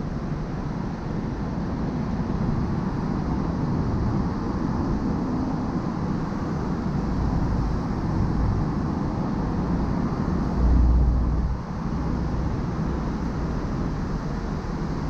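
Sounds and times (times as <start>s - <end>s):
car tyre and wind rumble: 0.0s - 15.0s.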